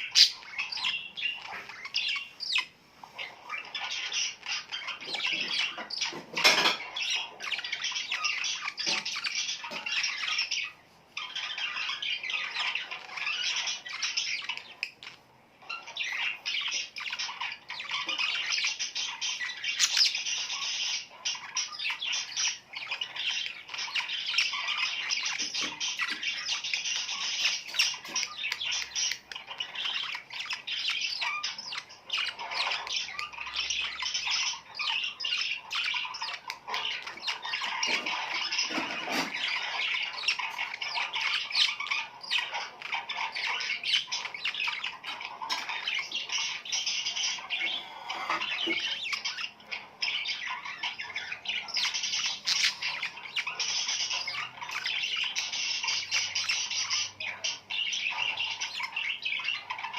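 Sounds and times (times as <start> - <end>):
flock of birds chirping: 0.0 - 59.9.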